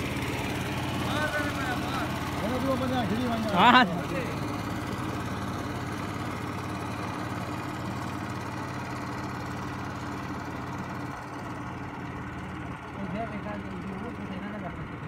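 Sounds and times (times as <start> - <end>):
boat engine running steadily: 0.0 - 15.0.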